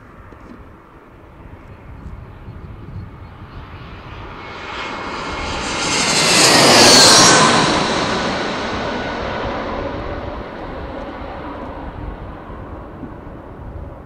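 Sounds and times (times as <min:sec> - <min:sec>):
jet airliner passing overhead: 0:00.0 - 0:14.0.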